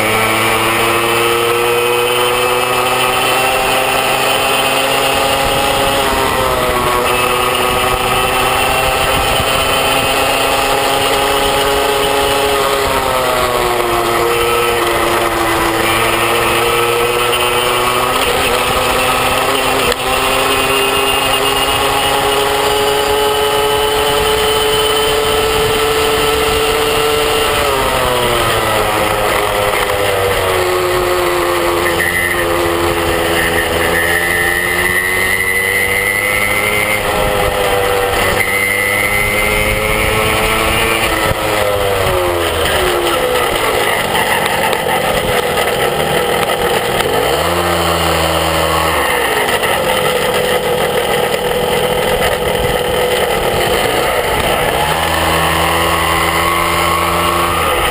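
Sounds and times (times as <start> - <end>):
moped engine running: 0.0 - 57.9.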